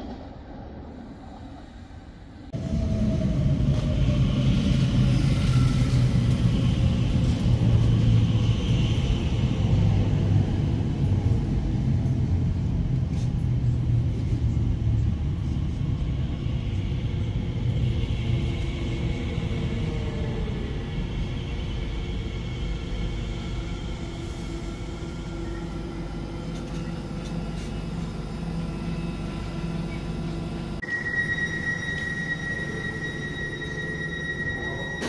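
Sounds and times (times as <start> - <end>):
electric train rumble and hum: 0.0 - 35.0.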